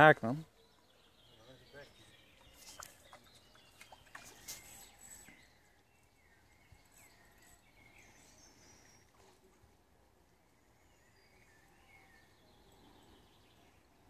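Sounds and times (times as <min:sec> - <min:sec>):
faint birdsong chirps and whistles: 0:00.0 - 0:14.0.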